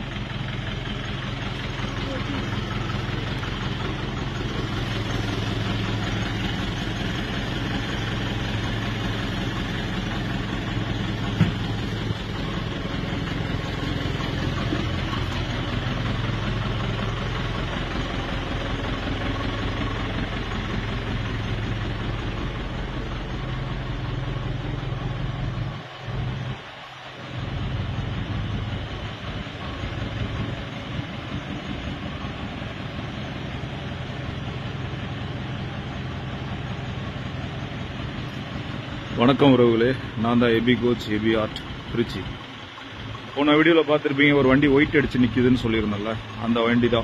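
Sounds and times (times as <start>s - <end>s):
bus engine idling: 0.0s - 47.0s.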